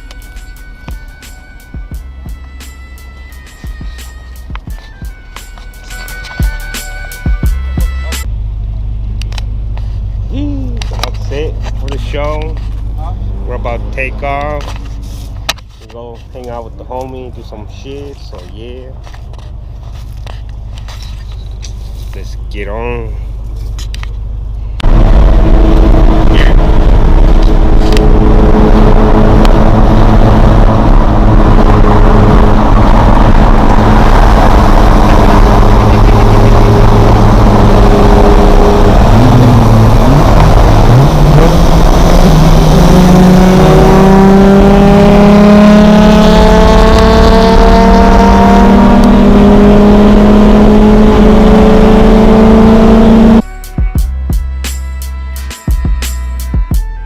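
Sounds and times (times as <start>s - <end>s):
car engine accelerating: 0.0s - 53.4s.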